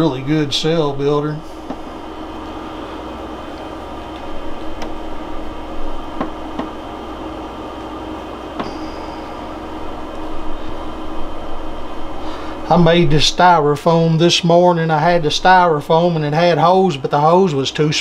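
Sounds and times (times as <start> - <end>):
incubator fan hum: 0.0 - 18.0.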